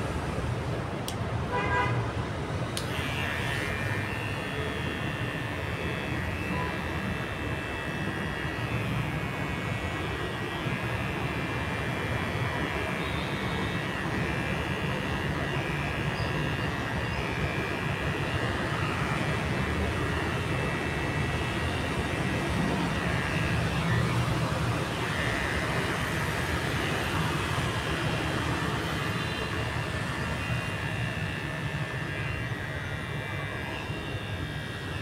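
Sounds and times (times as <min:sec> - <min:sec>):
electric hair clippers buzzing: 0:00.8 - 0:01.5, 0:02.4 - 0:35.0.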